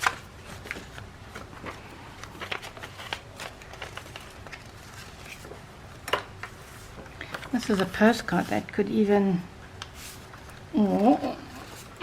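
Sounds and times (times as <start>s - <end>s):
paper and card rustling: 0.0s - 12.0s.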